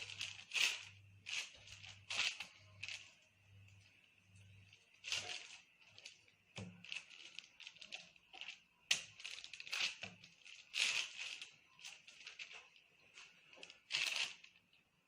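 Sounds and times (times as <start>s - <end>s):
hands rustling and scraping food: 0.0s - 14.6s.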